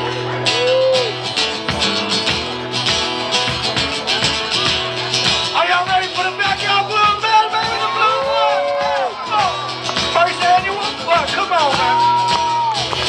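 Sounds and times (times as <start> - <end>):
acoustic guitar strumming: 0.0 - 13.0
drum kit beat: 1.4 - 13.0.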